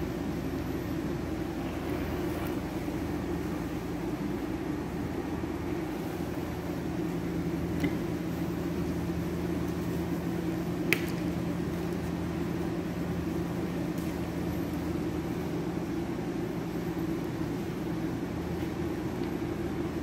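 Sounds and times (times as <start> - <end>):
mechanical hum of equipment: 0.0 - 20.0.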